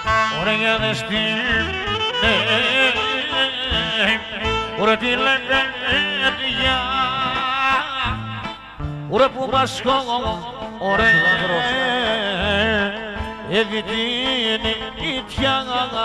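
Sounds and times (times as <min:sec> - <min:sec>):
keyboard accompaniment: 0:00.0 - 0:16.0
man singing: 0:00.2 - 0:16.0.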